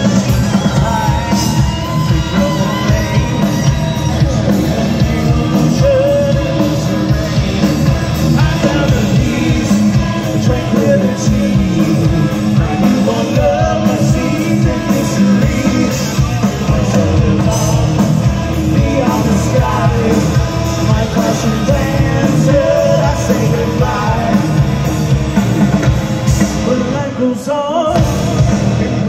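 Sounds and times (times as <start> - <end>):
drums: 0.0 - 29.0
electric guitars: 0.0 - 29.0
person singing: 0.0 - 29.0.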